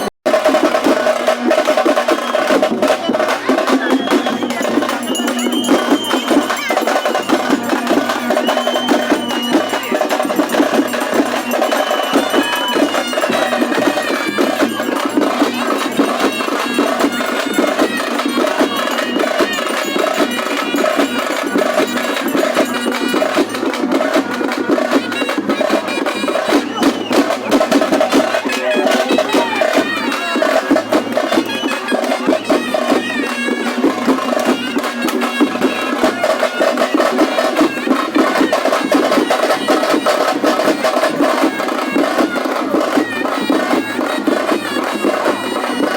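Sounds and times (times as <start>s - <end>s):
fast dense drumming: 0.0s - 45.9s
reed pipe melody: 2.0s - 45.9s.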